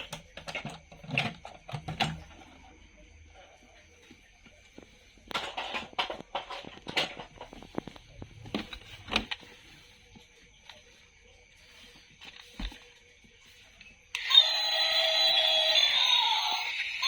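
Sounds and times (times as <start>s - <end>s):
plastic toys and packaging rustling: 0.0s - 17.0s.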